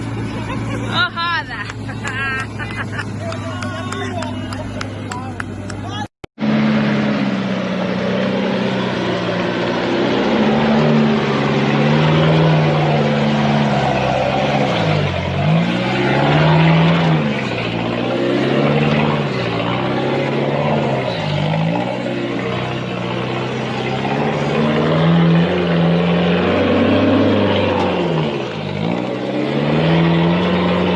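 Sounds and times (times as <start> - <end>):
off-road vehicle engine: 0.0 - 30.9.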